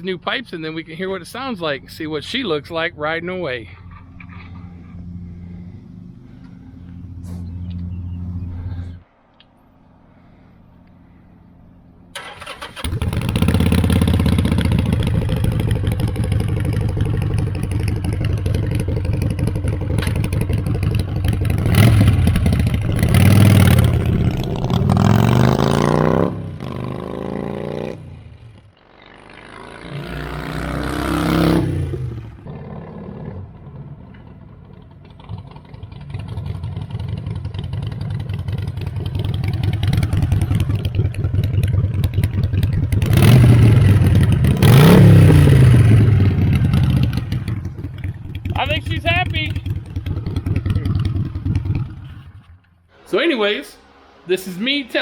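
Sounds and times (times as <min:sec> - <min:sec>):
motorcycle engine starting and revving: 0:01.4 - 0:09.5, 0:11.1 - 0:55.0.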